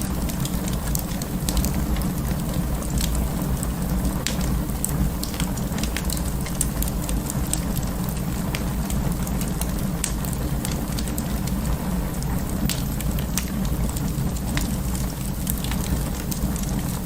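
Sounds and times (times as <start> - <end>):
fire flames rumbling and hissing: 0.0 - 17.0
logs crackling and popping: 0.0 - 17.0.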